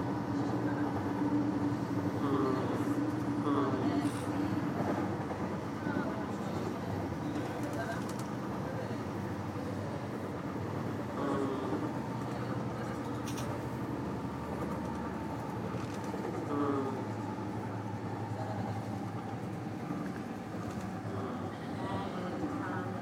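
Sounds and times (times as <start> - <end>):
train car rumbling with low hum: 0.0 - 23.0.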